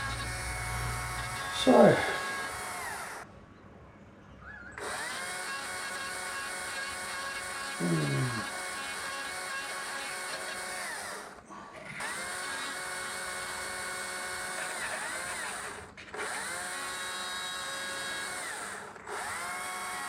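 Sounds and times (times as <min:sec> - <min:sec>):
power tool motor whining: 0:00.0 - 0:03.3, 0:04.8 - 0:11.4, 0:12.0 - 0:20.0.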